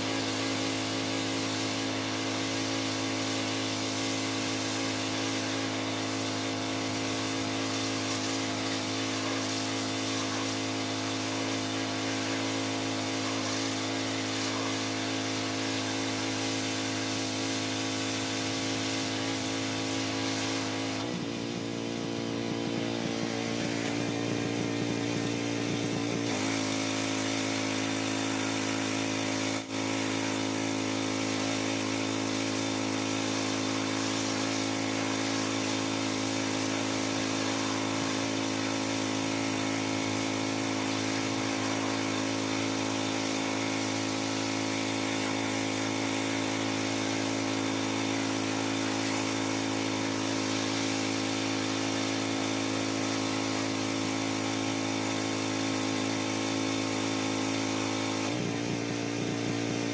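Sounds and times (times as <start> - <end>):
pressure washer engine running: 0.0 - 59.9.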